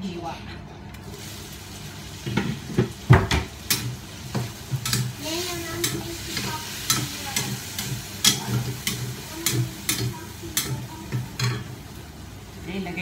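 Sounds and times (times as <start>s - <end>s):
chicken sizzling: 1.0s - 13.0s.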